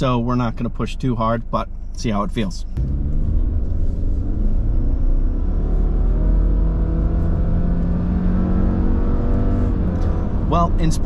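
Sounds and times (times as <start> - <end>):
car engine in cabin: 0.0 - 11.0
low road rumble: 0.0 - 11.0.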